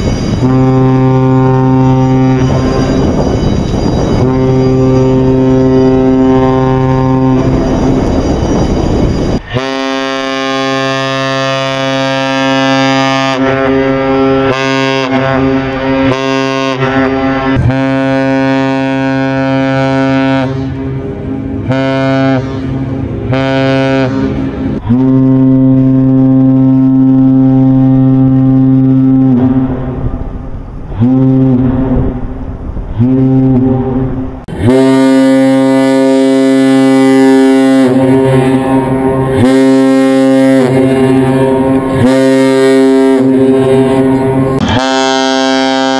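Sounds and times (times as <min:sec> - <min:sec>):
deep ship horn blasts: 0:00.0 - 0:45.9.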